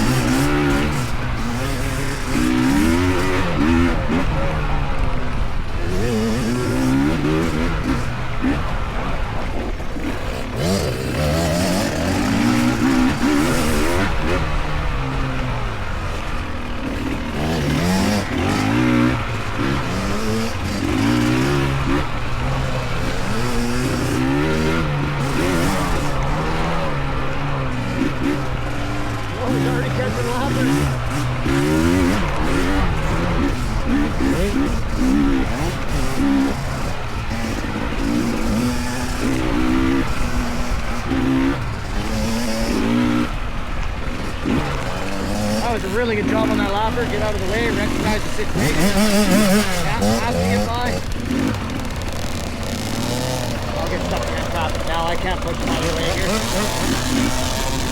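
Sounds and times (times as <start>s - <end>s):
dirt bike engines revving: 0.0s - 57.9s.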